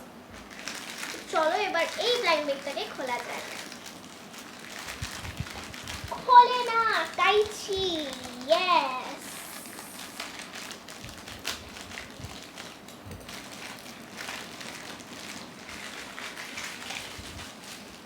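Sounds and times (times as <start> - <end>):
plastic wrapper crinkling: 0.3 - 18.0.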